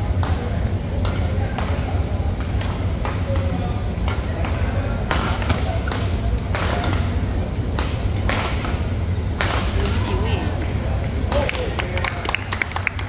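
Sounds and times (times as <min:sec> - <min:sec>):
low hum of hall: 0:00.0 - 0:13.0
rackets hitting shuttlecock: 0:00.2 - 0:11.7.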